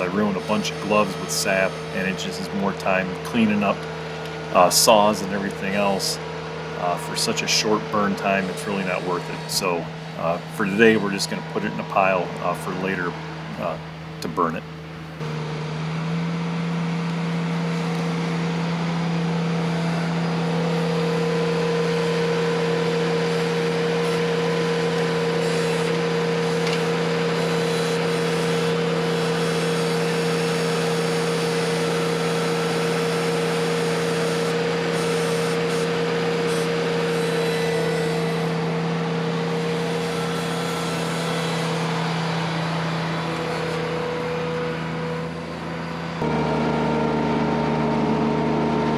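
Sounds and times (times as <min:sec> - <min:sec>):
tractor engine at high throttle: 0:00.0 - 0:48.9.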